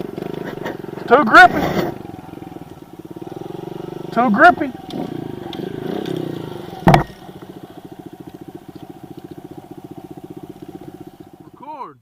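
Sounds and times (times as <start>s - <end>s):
small motorbike engine idling: 0.0s - 12.0s.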